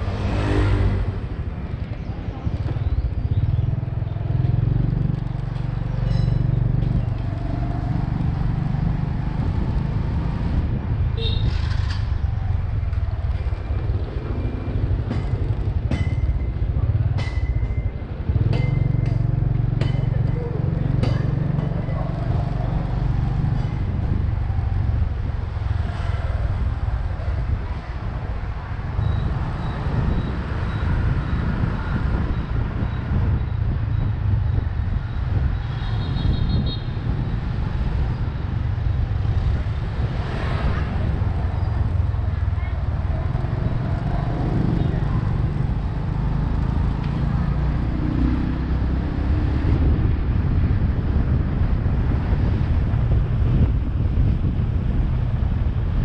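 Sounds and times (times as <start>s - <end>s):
motorbike running: 0.0s - 56.0s
road noise: 0.0s - 56.0s
traffic: 0.0s - 56.0s
wind rumbling on microphone: 0.0s - 56.0s.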